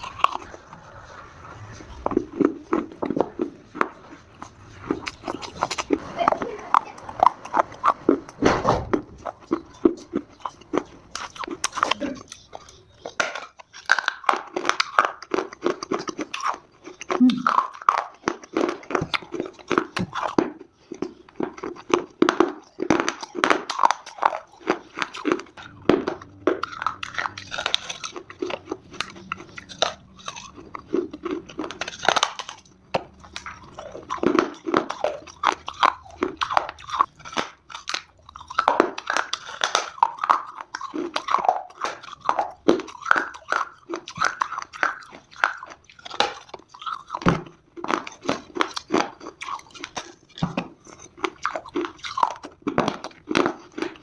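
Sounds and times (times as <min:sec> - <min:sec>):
clay being chewed crunching: 0:00.0 - 0:54.0.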